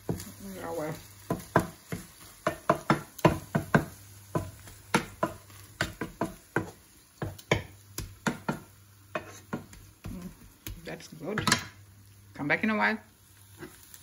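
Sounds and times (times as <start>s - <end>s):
wooden spatula knocking on pan: 0.0s - 11.8s.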